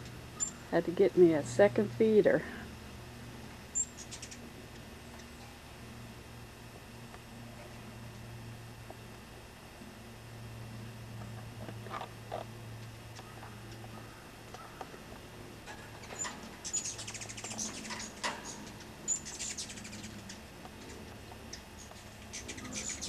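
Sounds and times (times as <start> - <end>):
hummingbirds chittering: 0.0 - 23.0
steady low hum: 0.0 - 23.0.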